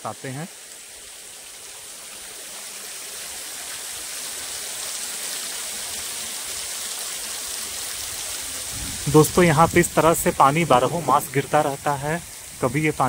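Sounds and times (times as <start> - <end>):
water dripping and splashing: 0.0 - 13.0.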